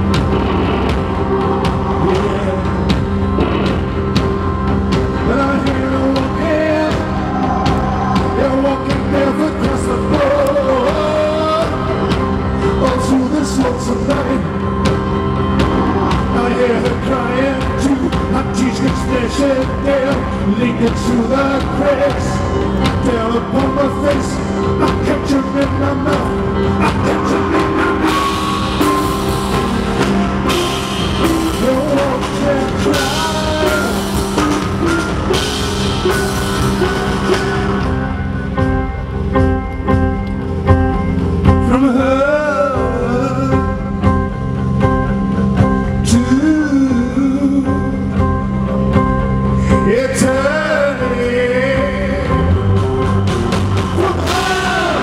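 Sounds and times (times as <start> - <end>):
drums: 0.0 - 55.0
rock band playing: 0.0 - 55.0
man singing: 1.2 - 38.8, 40.7 - 44.9, 45.7 - 53.0, 53.8 - 55.0.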